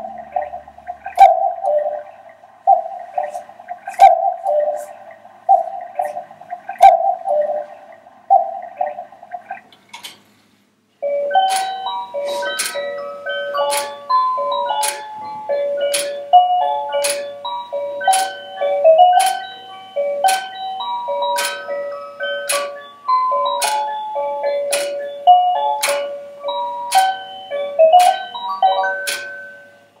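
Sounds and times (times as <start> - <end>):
clock melody plinking notes: 0.0 - 9.6, 11.0 - 30.0
clock ticking click: 0.0 - 9.8, 11.3 - 29.7.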